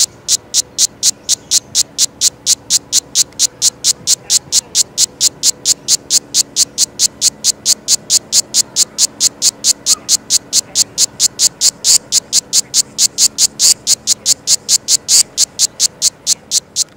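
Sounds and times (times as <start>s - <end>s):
cicada pulsing buzz: 0.0s - 16.9s.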